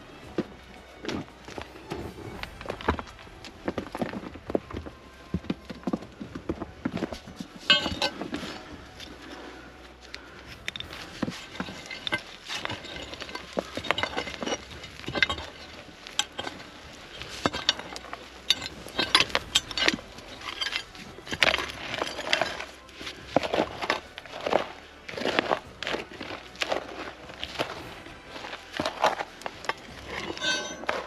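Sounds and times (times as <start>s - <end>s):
loose dirt rattling: 0.0s - 31.0s
metal tools scraping stony soil: 0.0s - 31.0s
stones clinking against metal: 0.0s - 31.0s.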